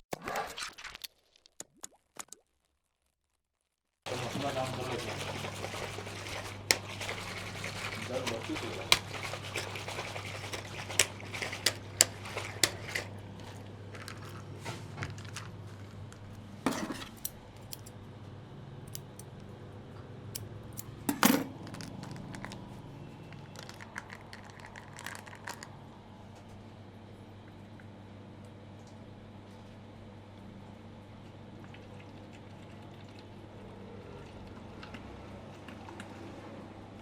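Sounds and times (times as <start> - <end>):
low steady hum: 4.1 - 34.9.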